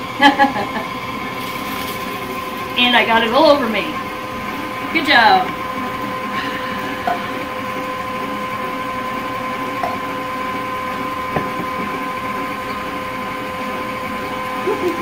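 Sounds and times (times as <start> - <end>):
stand mixer whining: 0.0 - 15.0.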